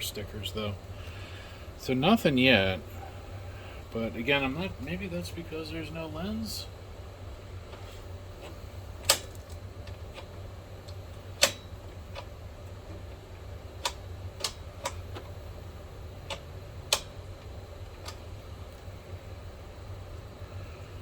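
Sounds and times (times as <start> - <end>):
projector cooling fans humming: 0.0 - 21.0.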